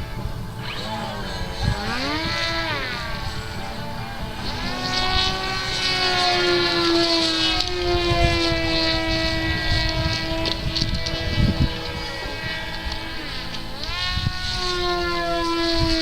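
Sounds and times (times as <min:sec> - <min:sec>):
model airplane motor whining: 0:00.0 - 0:16.0
wind buffeting microphone: 0:00.0 - 0:16.0.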